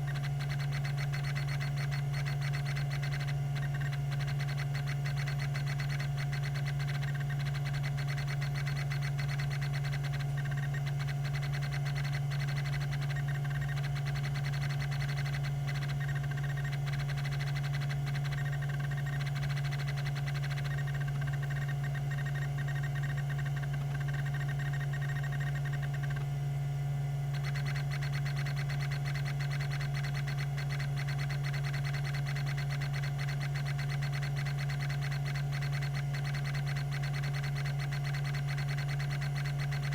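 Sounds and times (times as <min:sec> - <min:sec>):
hard drive actuator ticking: 0:00.0 - 0:26.5, 0:27.2 - 0:39.9
hard drive hum and whine: 0:00.0 - 0:39.9.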